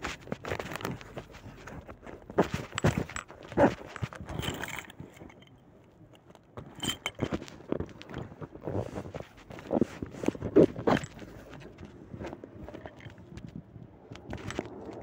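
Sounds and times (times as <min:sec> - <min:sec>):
clothing rustling on microphone: 0:00.0 - 0:05.6, 0:06.6 - 0:15.0.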